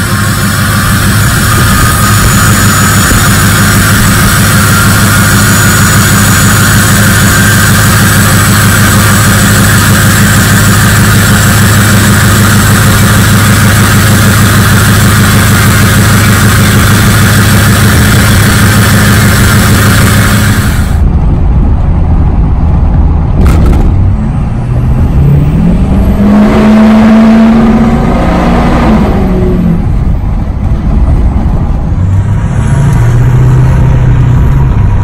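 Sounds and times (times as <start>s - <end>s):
diesel engine idling loudly: 0.0s - 26.2s, 28.9s - 35.0s.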